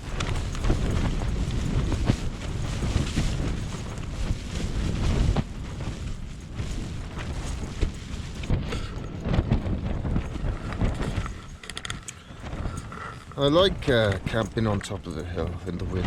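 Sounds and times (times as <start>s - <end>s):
tent fabric flapping: 0.0s - 16.0s
wind rumble on microphone: 0.0s - 16.0s.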